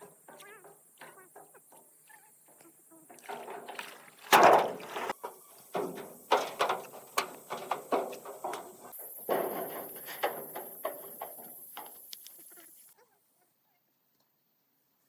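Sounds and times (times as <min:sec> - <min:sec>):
irregular knocks and thuds: 0:00.0 - 0:12.1.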